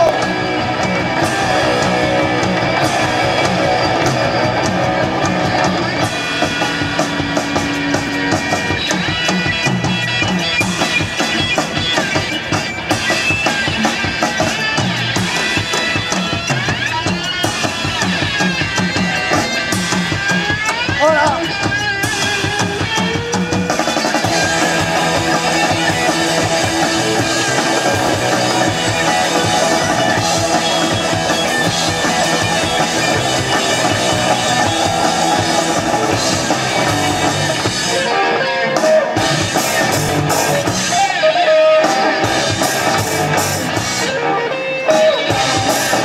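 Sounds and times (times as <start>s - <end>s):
bass guitar: 0.0s - 46.0s
drum kit: 0.0s - 46.0s
electric guitar lead: 0.0s - 46.0s.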